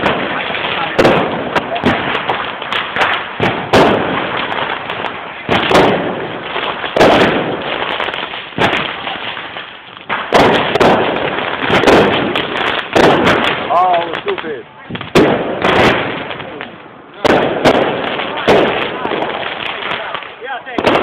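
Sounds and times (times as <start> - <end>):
firecrackers crackling: 0.0 - 21.0
loud firework bangs: 0.0 - 21.0.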